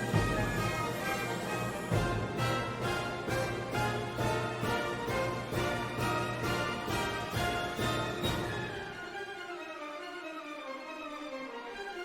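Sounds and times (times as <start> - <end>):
orchestral theme music: 0.0 - 12.0.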